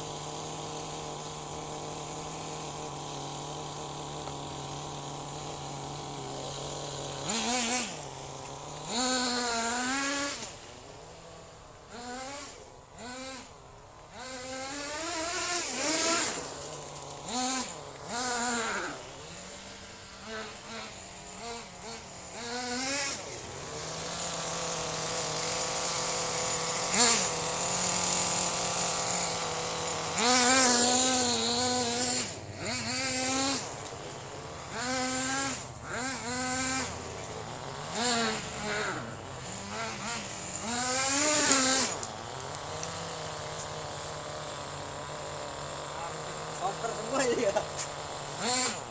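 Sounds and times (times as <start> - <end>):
small model engine buzzing and revving: 0.0 - 48.9.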